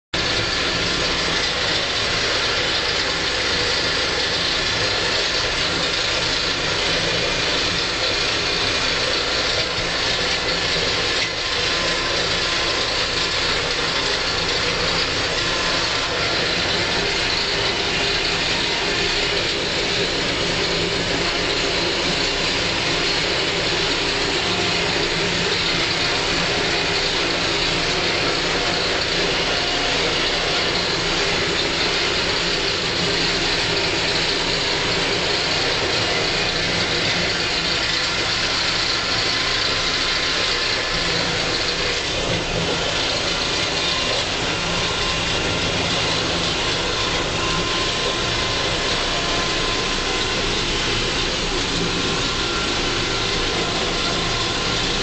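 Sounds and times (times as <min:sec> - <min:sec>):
tractor diesel engine running: 0:00.1 - 0:55.0.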